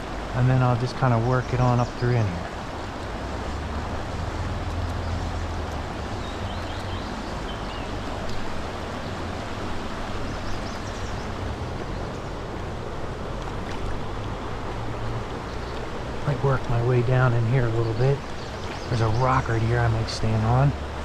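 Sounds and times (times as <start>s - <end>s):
creek current rushing: 0.0s - 21.0s.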